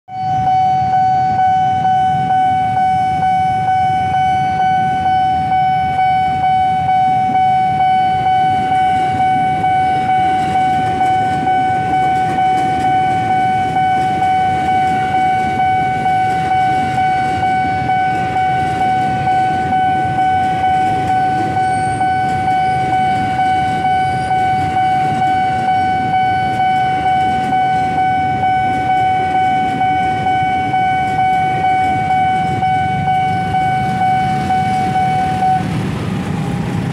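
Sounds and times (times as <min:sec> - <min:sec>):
electric train rumbling past: 0:00.1 - 0:36.9
level-crossing warning bell ringing: 0:00.1 - 0:36.9.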